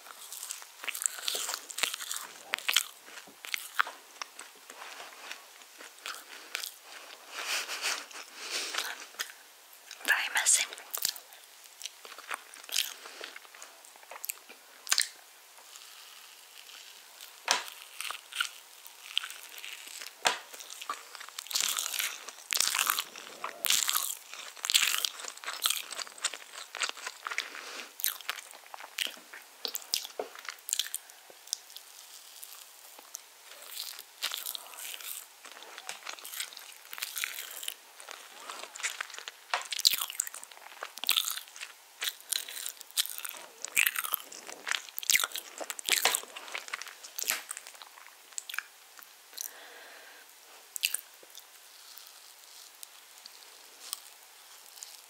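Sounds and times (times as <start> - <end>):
person chewing cake: 0.0 - 50.0, 50.6 - 55.0.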